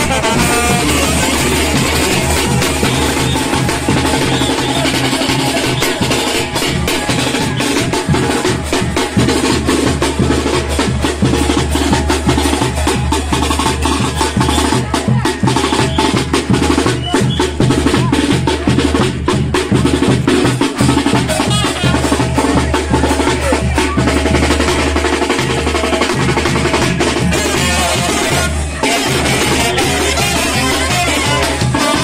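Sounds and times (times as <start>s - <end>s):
fast drumming with snare rolls: 0.0s - 32.0s.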